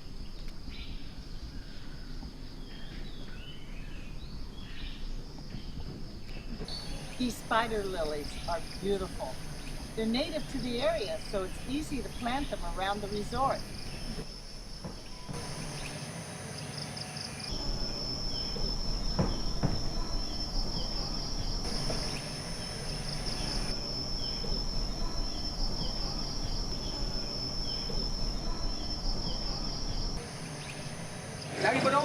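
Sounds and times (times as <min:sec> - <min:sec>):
insect chirps: 0:00.0 - 0:32.0
insects pulsing trill: 0:00.0 - 0:32.0.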